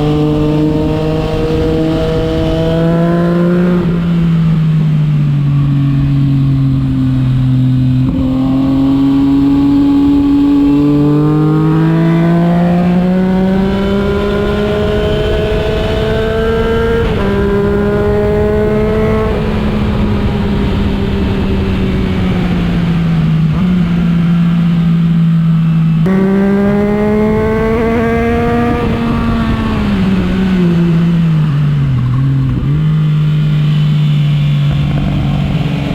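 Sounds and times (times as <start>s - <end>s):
motorcycle engine under load: 0.0s - 35.9s.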